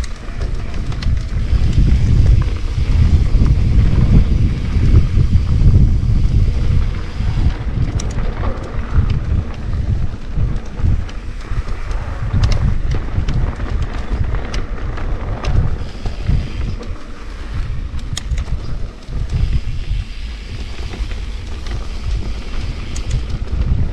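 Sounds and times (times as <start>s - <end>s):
bike clicks and ticks: 0.0s - 23.9s
wind buffeting microphone: 0.0s - 23.9s.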